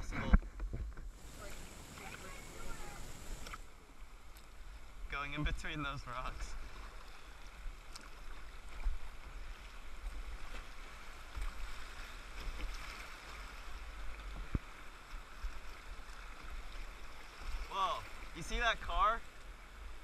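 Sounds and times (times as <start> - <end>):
river water rushing and splashing: 1.1 - 20.0.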